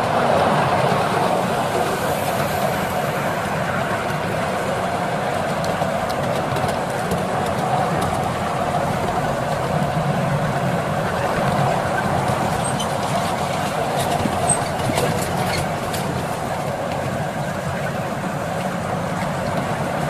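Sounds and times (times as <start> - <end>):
miniature train wheels rolling: 0.8 - 20.0.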